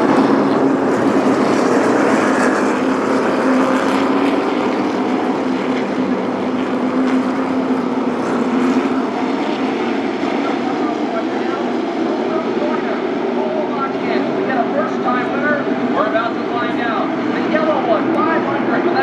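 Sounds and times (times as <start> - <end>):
race car engines droning: 0.0 - 19.0.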